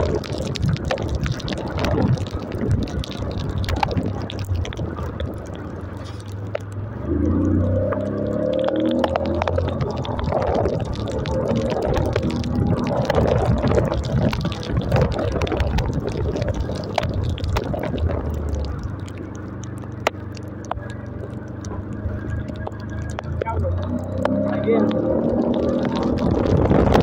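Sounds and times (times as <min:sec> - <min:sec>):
raindrops ticking on phone: 0:00.0 - 0:27.0
wind and rain noise: 0:00.0 - 0:27.0.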